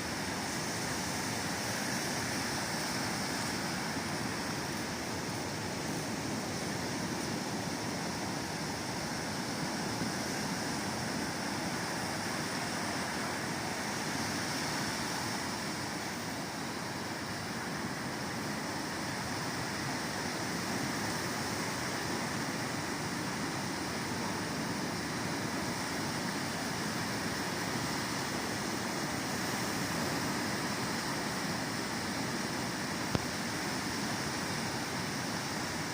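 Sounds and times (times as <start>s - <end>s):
ocean surf: 0.0s - 35.9s
wind: 0.0s - 35.9s.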